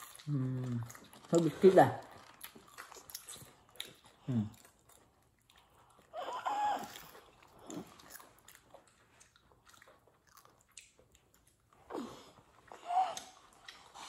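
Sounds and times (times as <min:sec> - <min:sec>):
chewing fried chicken: 0:00.0 - 0:14.0.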